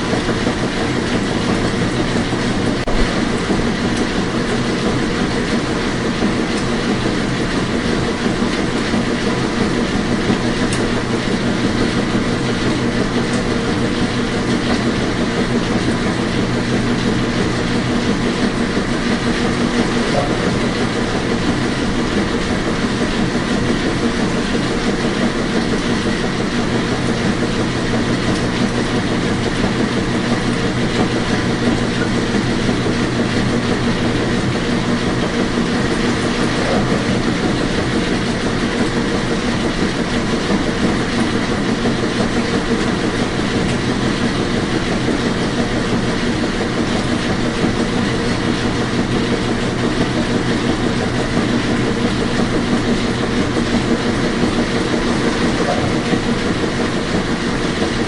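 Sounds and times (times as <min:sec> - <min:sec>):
washing machine running: 0:00.0 - 0:58.0.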